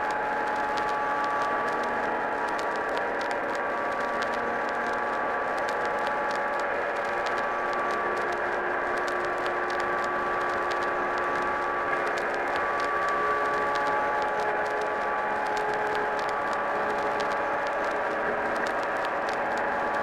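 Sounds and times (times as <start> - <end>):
droning ambient music: 0.0 - 20.0
record crackle: 0.0 - 20.0.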